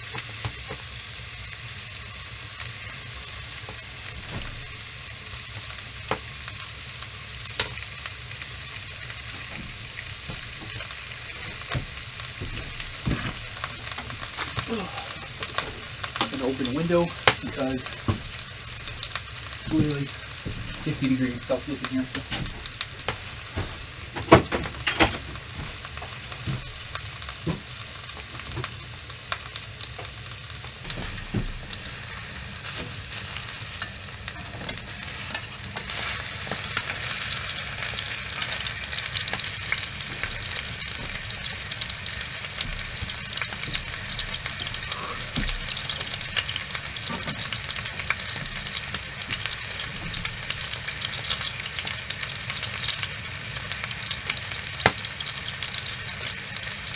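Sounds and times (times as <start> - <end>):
steak sizzling in oil: 0.0 - 56.9.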